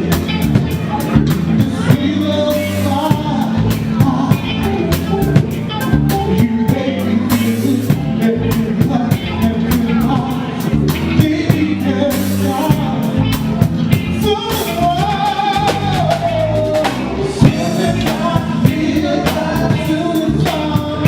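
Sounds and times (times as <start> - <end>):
drum kit beat: 0.0 - 21.0
soul band playing: 0.0 - 21.0.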